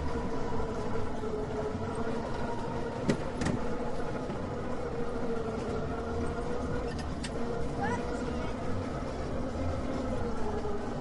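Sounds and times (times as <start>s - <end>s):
ride machinery rumbling: 0.0s - 11.0s.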